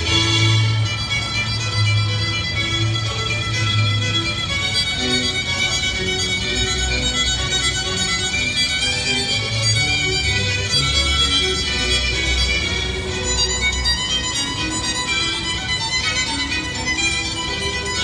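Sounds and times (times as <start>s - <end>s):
violin-led string music: 0.0s - 18.0s.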